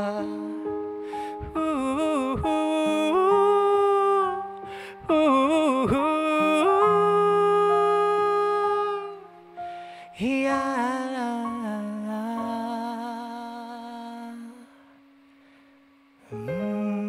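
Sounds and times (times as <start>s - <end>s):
man singing wordless vocals: 0.0s - 15.0s, 16.2s - 17.0s.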